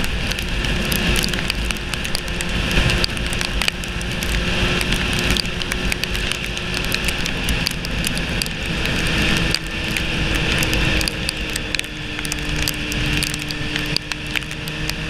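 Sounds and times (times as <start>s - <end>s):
raindrops ticking on camera: 0.0s - 15.0s.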